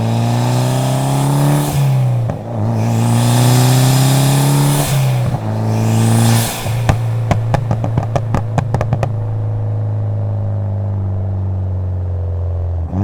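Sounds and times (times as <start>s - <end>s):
exhaust pops and crackles: 0.0s - 10.7s
car engine accelerating hard: 0.0s - 13.0s.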